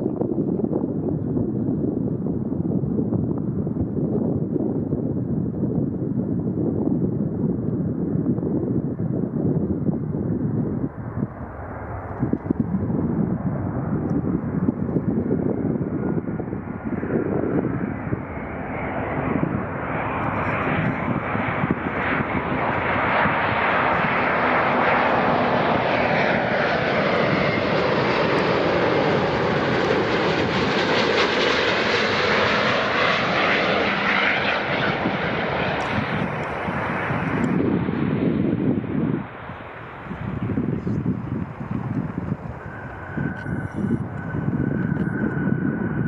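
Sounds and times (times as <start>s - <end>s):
jet airliner flying past: 0.0s - 46.0s.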